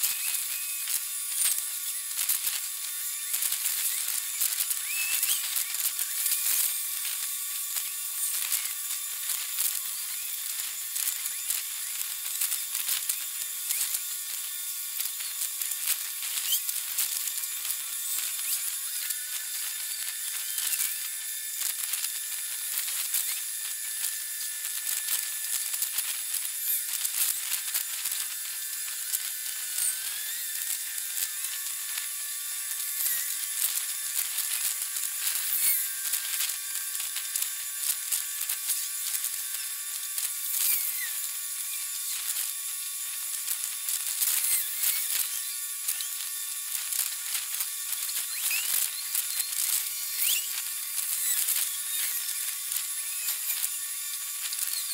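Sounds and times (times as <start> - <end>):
rapid clicks and short chirps: 0.0 - 23.8, 29.1 - 42.5, 43.1 - 54.9.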